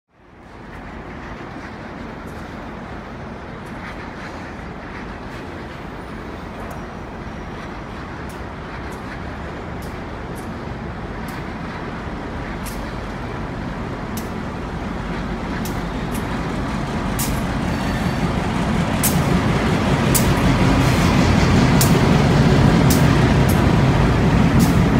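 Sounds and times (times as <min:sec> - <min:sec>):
diesel locomotive engine: 0:00.1 - 0:24.9
train wheels on rails: 0:00.1 - 0:24.9.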